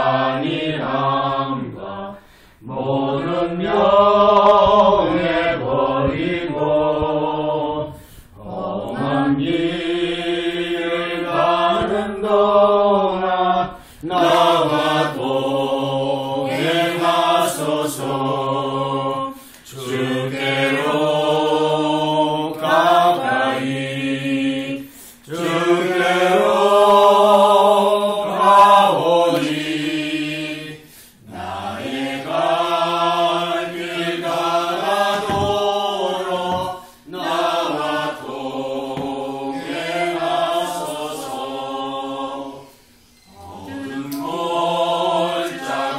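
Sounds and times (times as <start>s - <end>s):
group singing a hymn unaccompanied: 0.0s - 45.9s.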